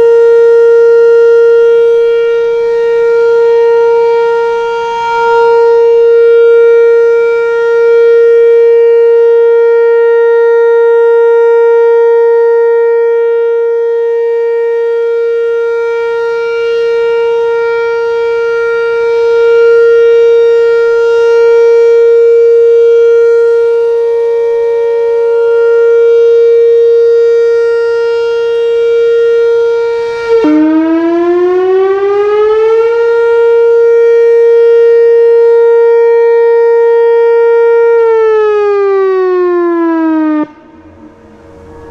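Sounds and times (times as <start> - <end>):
electronic warning siren: 0.0 - 41.9.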